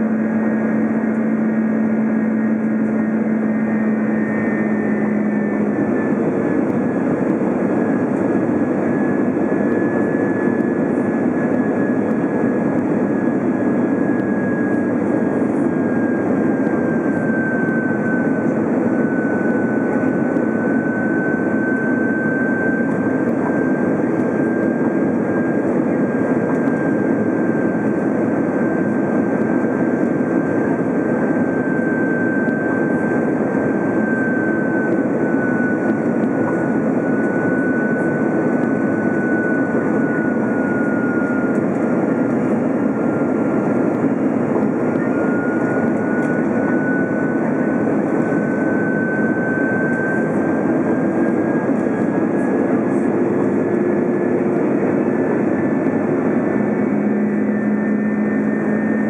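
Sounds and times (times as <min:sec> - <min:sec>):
high engine whine: 0:00.0 - 0:59.0
jet engines rushing in cabin: 0:00.0 - 0:59.0.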